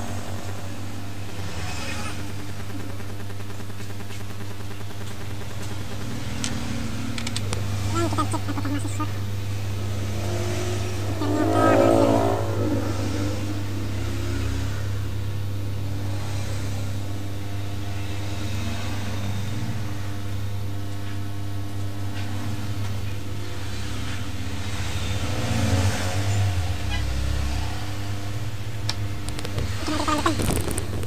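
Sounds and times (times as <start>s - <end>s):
motor hum with faint high tones: 0.0s - 31.0s.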